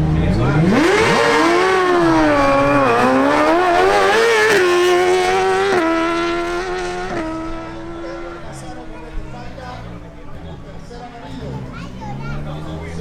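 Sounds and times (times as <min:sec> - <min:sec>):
motorcycle engine high-revving howl: 0:00.0 - 0:13.0.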